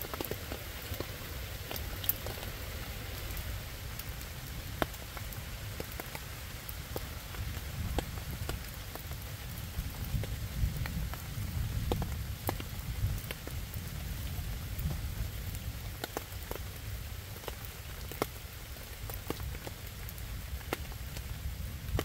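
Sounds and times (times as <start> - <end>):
rain falling on leaves: 0.0 - 22.0.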